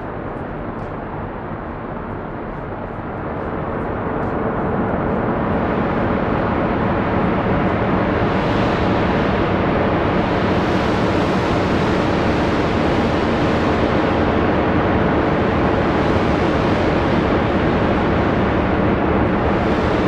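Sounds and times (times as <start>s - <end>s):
low fan drone: 0.0s - 20.0s
rush of wind: 0.0s - 20.0s.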